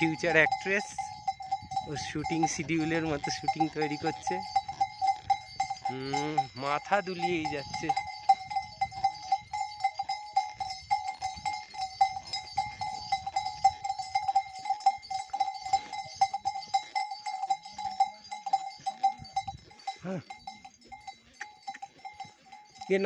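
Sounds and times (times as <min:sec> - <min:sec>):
harness bell jangling: 0:00.0 - 0:23.0.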